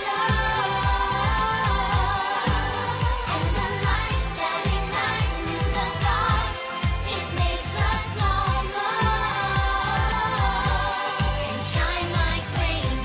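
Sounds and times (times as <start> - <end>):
person singing: 0.0 - 13.0
pop music beat with deep bass: 0.0 - 13.0.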